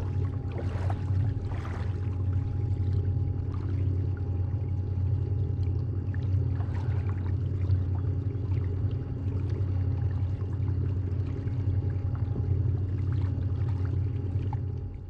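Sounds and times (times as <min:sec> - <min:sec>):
low rumble: 0:00.0 - 0:10.4, 0:11.2 - 0:15.0
faint whine: 0:00.0 - 0:15.0
water trickling along kayak hull: 0:00.0 - 0:15.0.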